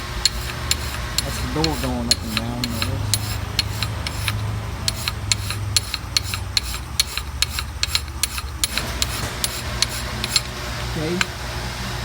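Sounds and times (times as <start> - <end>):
low shop hum: 0.0 - 12.0
hand file scraping metal: 0.2 - 11.3.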